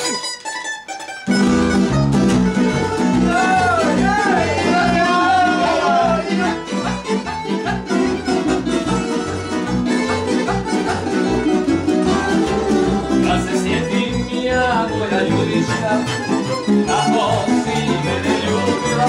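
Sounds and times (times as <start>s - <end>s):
plucked string ensemble: 0.0s - 19.0s
double bass beat: 1.3s - 19.0s.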